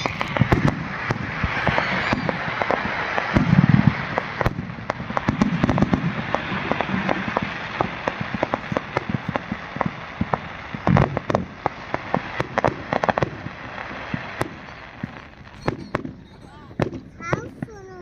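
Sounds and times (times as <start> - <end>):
firework shells booming: 0.0 - 17.9
firework crackle: 0.0 - 18.0.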